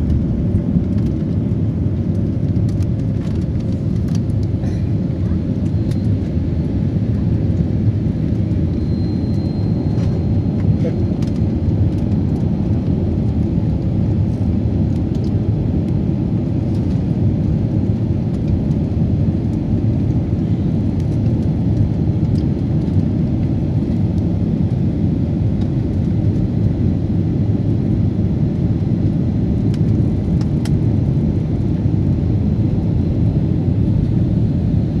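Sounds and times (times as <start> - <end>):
jet engine rumble in cabin: 0.0 - 35.0.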